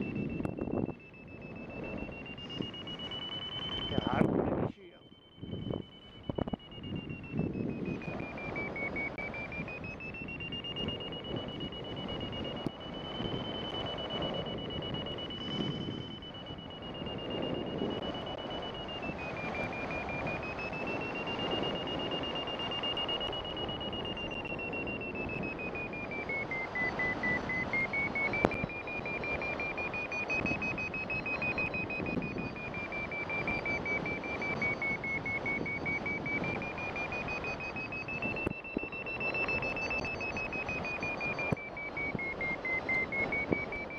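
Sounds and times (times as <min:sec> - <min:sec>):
variometer high tone: 0:00.0 - 0:43.9
wind rush on microphone: 0:00.0 - 0:43.9.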